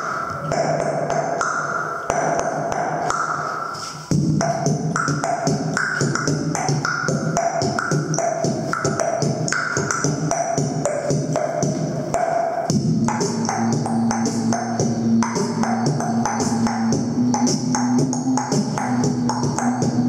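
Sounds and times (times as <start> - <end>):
beatboxing through a microphone: 0.0 - 20.0.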